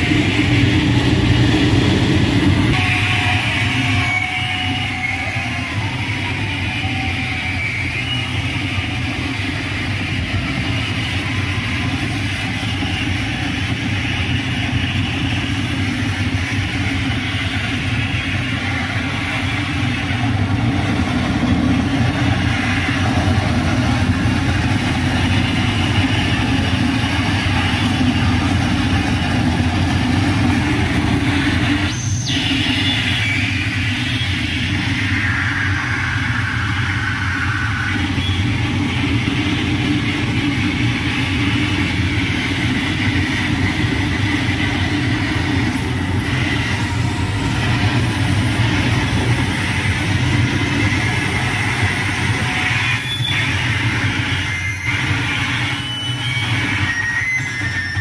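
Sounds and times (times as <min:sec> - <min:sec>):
distorted electronic noise: 0:00.0 - 0:58.0.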